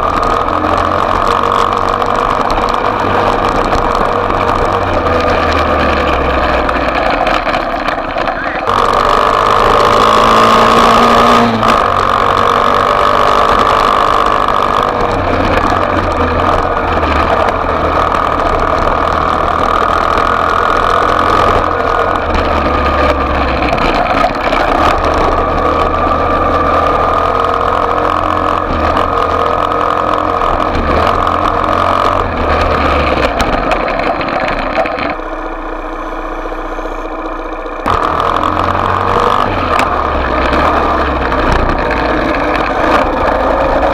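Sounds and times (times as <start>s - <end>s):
motorcycle engine running hard: 0.0s - 43.9s.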